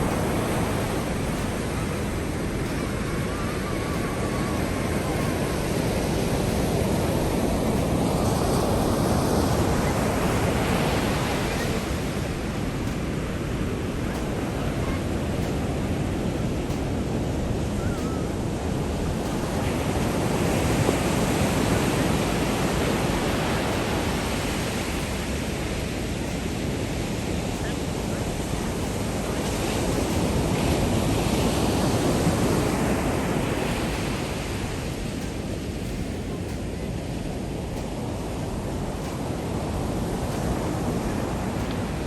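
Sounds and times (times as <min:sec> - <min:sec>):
waves breaking on shore: 0:00.0 - 0:42.0.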